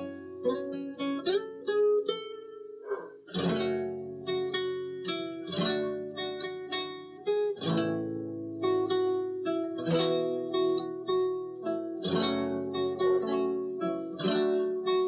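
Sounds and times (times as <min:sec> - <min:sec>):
picked guitar notes: 0:00.0 - 0:15.0.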